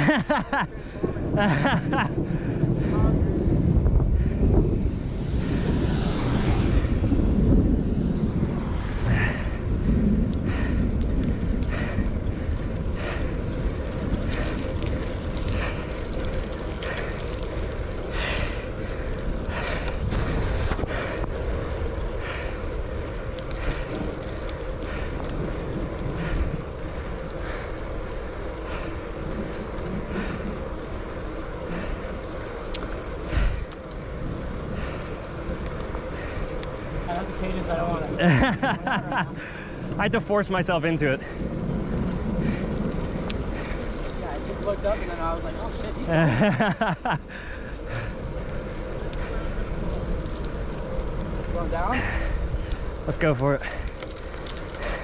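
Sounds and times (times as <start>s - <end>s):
wet tyres rushing: 0.0s - 55.0s
wind buffeting microphone: 0.0s - 55.0s.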